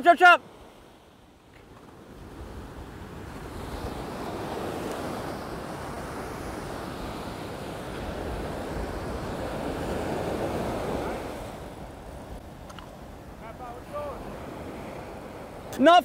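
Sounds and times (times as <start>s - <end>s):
surf breaking on beach: 0.0s - 16.0s
wind buffeting microphone: 0.6s - 15.8s.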